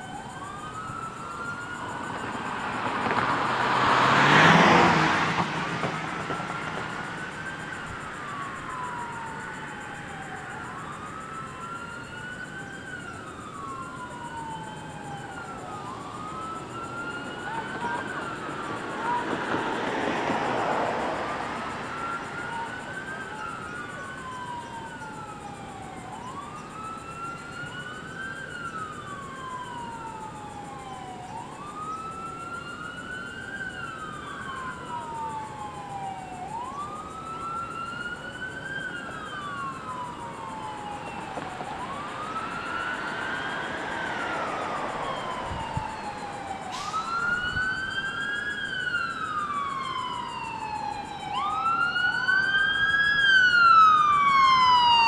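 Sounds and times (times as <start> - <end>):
police sirens wailing: 0.0 - 55.0.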